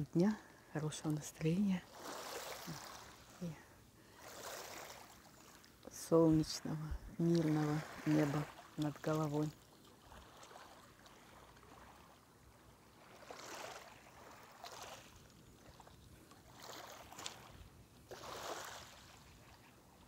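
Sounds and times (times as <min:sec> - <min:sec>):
small waves lapping on pebbles: 0:00.0 - 0:20.0.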